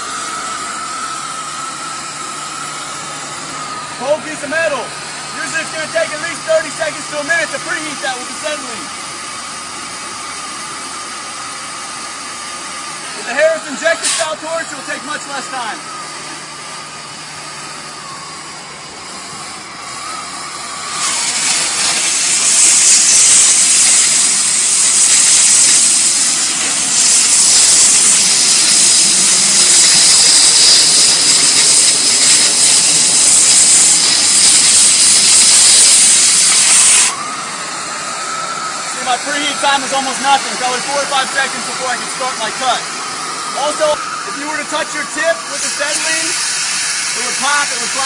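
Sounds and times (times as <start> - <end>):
cutting torch hissing: 0.0 - 48.0.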